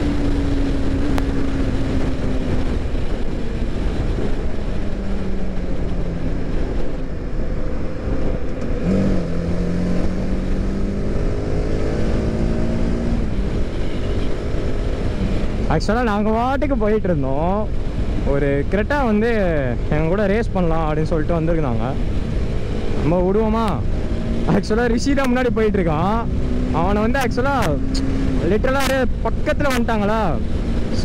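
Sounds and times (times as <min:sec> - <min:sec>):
motorcycle engine at speed: 0:00.0 - 0:31.0
rushing wind noise: 0:00.0 - 0:31.0.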